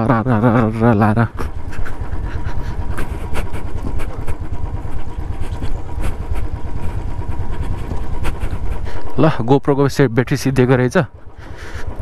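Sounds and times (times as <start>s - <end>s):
motorcycle engine and road rumble: 0.0s - 12.0s.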